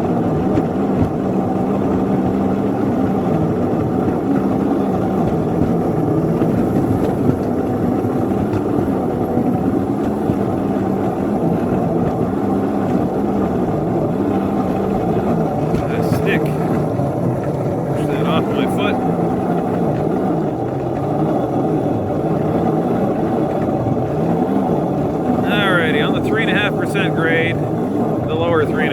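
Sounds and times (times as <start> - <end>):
miniature locomotive engine straining: 0.0 - 28.9.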